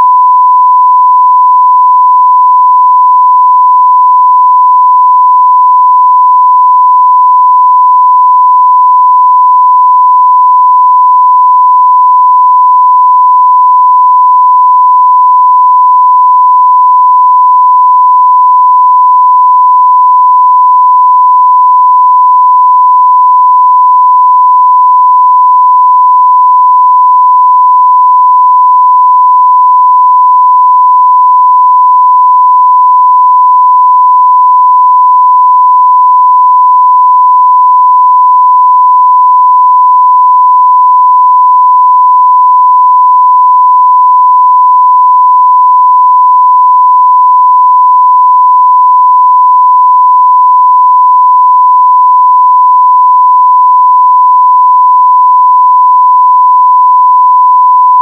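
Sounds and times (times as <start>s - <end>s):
sine wave test tone: 0.0s - 58.0s.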